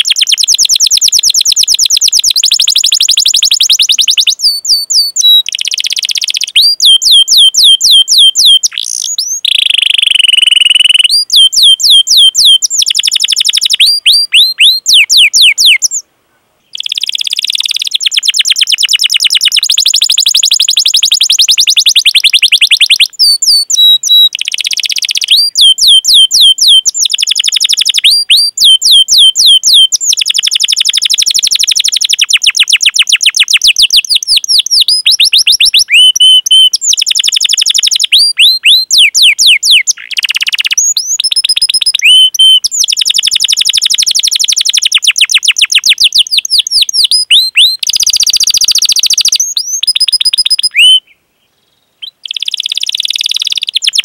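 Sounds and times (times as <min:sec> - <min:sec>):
canary singing: 0:00.0 - 0:16.0, 0:16.7 - 0:51.2, 0:52.0 - 0:54.0.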